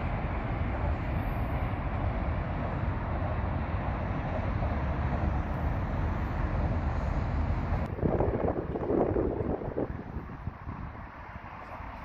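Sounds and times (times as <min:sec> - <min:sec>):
low rumble of city traffic: 0:00.0 - 0:12.0
wind buffeting microphone: 0:00.0 - 0:12.0.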